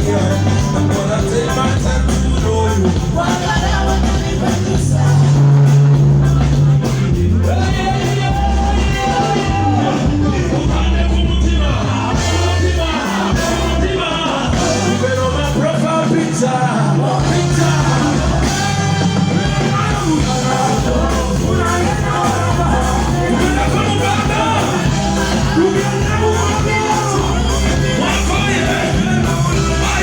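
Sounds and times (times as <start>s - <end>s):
stepping bass line: 0.0s - 16.2s, 17.1s - 30.0s
amplified music with singer: 0.0s - 30.0s.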